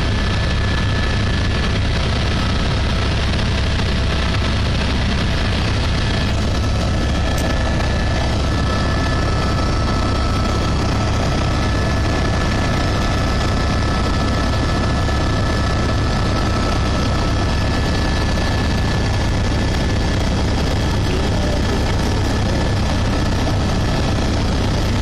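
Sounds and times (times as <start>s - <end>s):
helicopter engine and rotor rumble: 0.0s - 25.0s
high whine: 0.0s - 25.0s.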